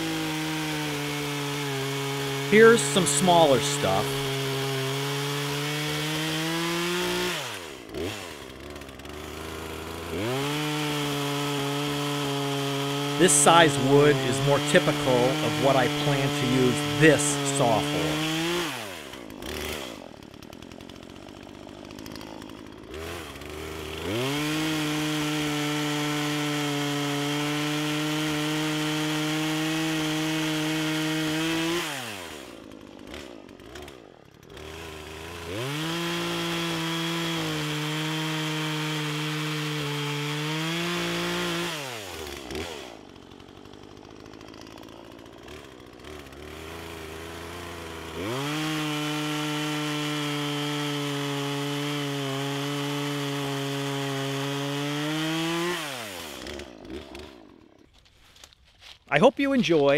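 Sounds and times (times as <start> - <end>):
chainsaw cutting logs: 0.0 - 59.9.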